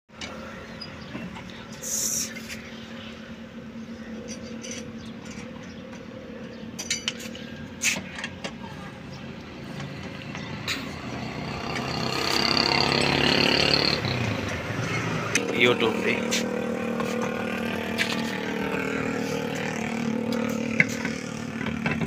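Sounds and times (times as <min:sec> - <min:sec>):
vehicle engine running: 0:00.2 - 0:22.0.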